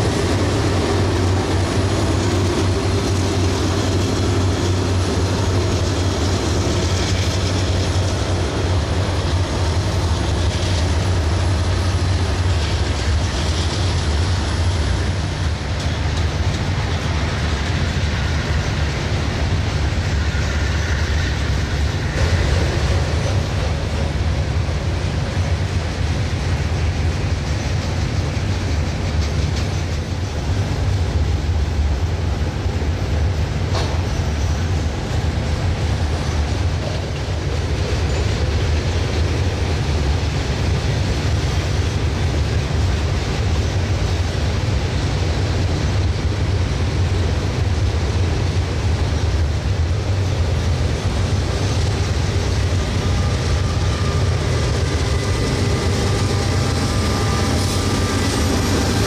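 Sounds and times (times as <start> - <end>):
locomotive engines droning: 0.0 - 59.0
train cars rolling on rails: 0.0 - 59.0.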